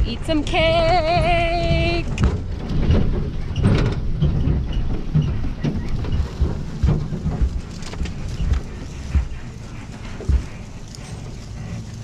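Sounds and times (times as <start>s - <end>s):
truck driving on rough ground: 0.0s - 12.0s
truck rattling and knocking: 0.0s - 12.0s.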